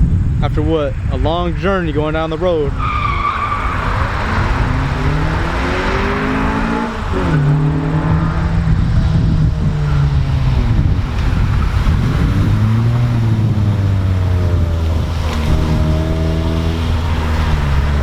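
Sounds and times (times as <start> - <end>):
road and wind noise: 0.0 - 18.0
car engine accelerating: 2.7 - 18.0.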